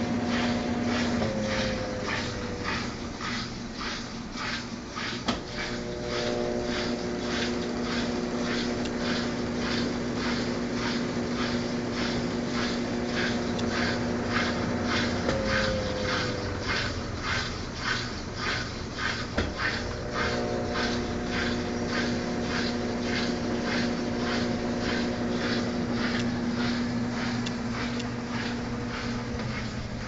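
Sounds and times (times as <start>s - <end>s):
rhythmic swish of drum turning: 0.0s - 30.0s
washing machine motor hum: 0.0s - 30.0s.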